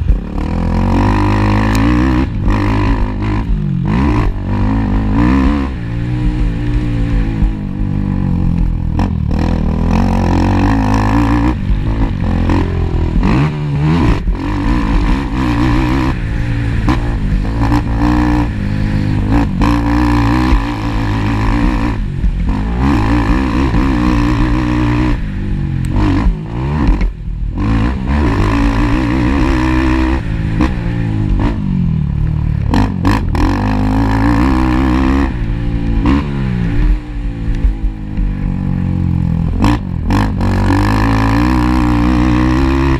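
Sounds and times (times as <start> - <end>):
atv engines revving: 0.0 - 42.9.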